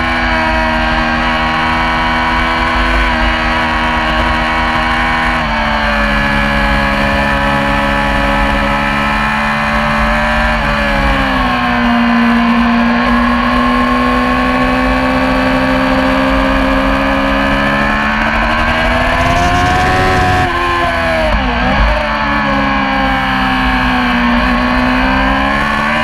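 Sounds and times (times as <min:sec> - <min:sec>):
racing engine at high revs: 0:00.0 - 0:26.0.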